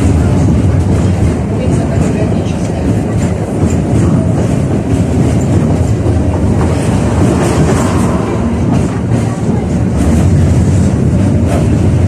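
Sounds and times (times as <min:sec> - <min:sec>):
track clicking: 0:00.0 - 0:12.0
tram wheels rumbling on rails: 0:00.0 - 0:12.0.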